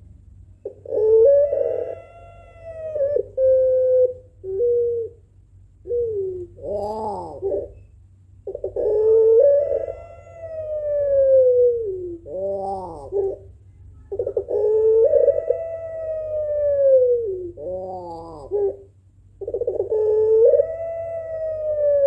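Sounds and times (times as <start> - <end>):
dove cooing: 0.6 - 22.0.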